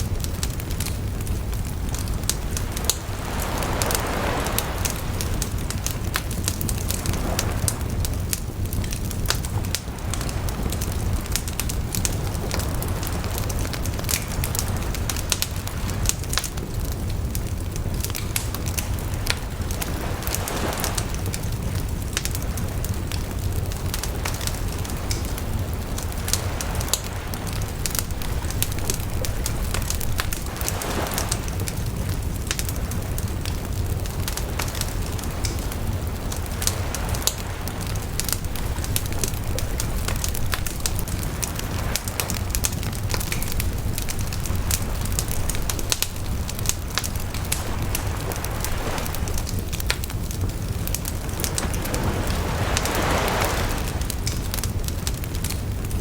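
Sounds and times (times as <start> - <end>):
flames rushing: 0.0 - 56.0
wood crackling and popping: 0.0 - 56.0.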